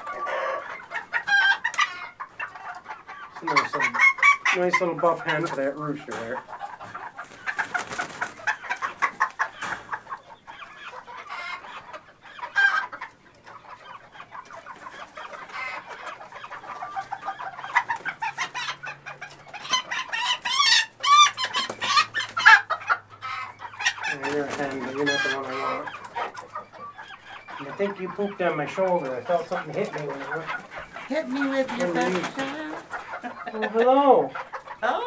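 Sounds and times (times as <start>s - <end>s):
chickens clucking: 0.0s - 35.0s
chickens loud drawn-out calls: 0.0s - 35.0s.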